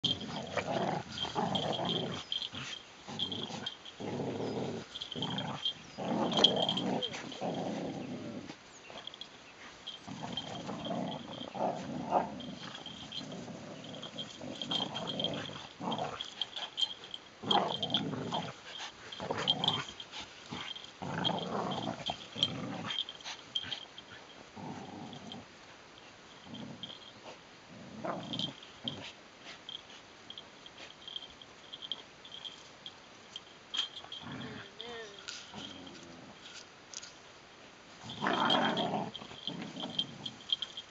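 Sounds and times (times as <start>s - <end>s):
dogs growling playfully: 0.0s - 25.6s, 26.3s - 30.0s, 33.7s - 36.6s, 37.9s - 40.9s.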